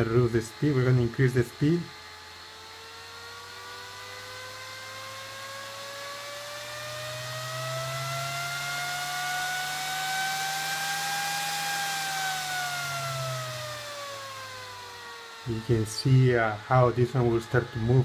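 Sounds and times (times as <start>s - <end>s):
server fan whining: 0.0s - 18.0s.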